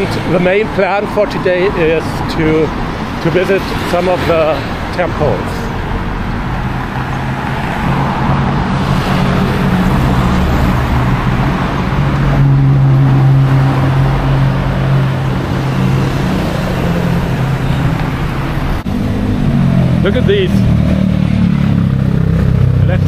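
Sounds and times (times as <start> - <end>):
street traffic: 0.0 - 23.0
vehicle engine humming: 0.0 - 23.0.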